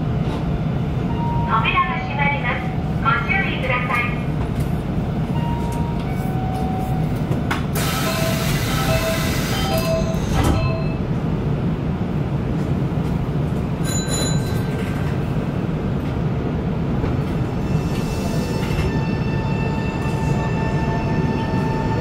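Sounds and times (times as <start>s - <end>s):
train equipment low hum: 0.0s - 22.0s.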